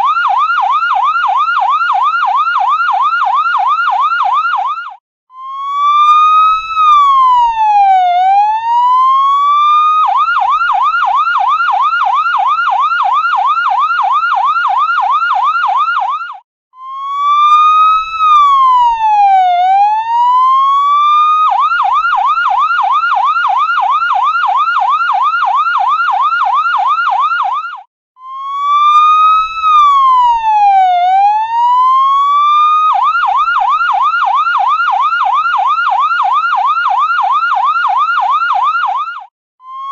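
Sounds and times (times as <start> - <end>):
ambulance siren wailing and yelping: 0.0 - 39.9.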